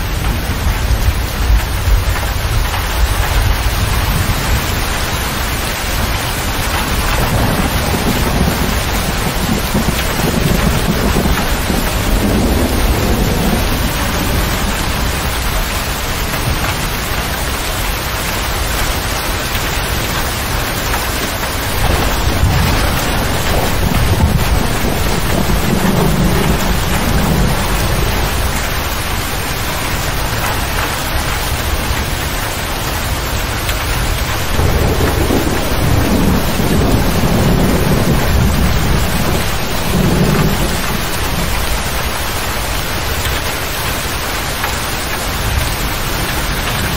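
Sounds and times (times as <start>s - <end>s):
low rolling thunder: 0.0s - 17.6s, 18.2s - 46.9s
heavy rain on a cab roof: 0.0s - 46.9s.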